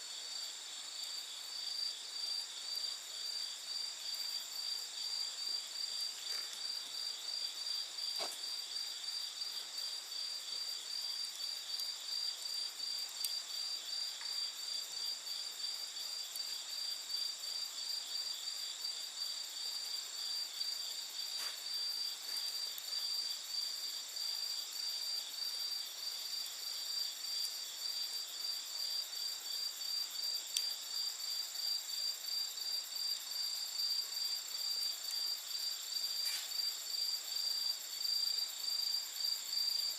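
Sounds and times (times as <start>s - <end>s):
night insects chirping: 0.0s - 39.9s
campfire crackling: 0.1s - 38.1s.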